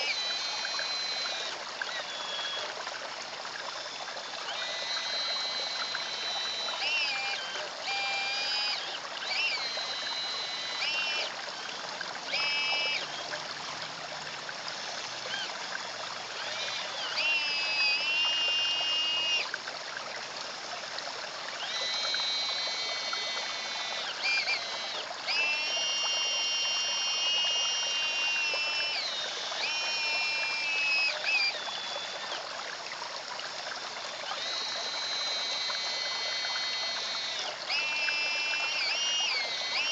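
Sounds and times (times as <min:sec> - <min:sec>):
high whine of toy motors: 0:00.0 - 0:39.9
water trickling into pond: 0:00.0 - 0:39.9.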